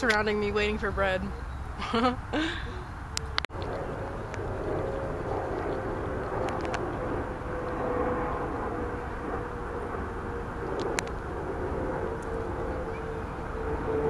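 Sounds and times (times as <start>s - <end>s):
distant engine drone: 0.0s - 14.0s
outdoor background noise: 0.0s - 14.0s.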